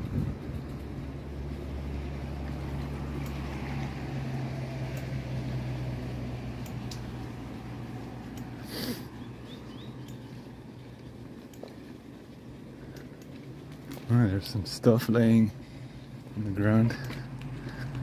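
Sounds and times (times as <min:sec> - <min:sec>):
bike clicks and rattles: 0:00.0 - 0:18.0
low steady hum: 0:00.0 - 0:18.0.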